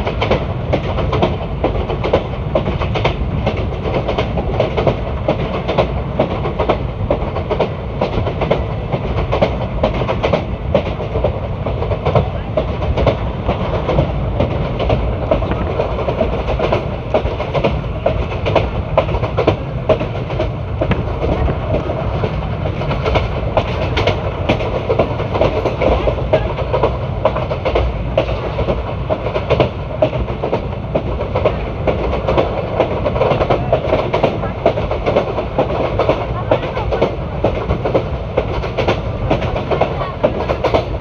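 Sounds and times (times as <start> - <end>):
train coaches rumbling: 0.0 - 41.0.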